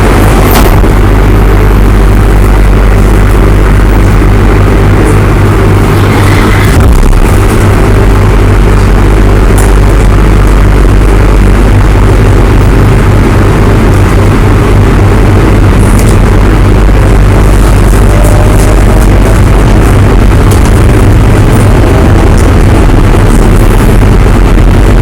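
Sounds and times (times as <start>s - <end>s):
faint rising whine: 0.0s - 25.0s
train wheels rumbling on rail: 0.0s - 25.0s.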